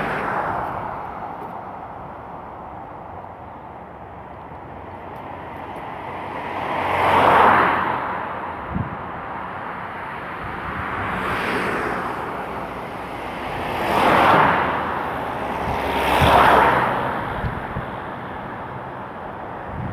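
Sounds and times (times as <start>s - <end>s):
cars passing: 0.0s - 19.9s.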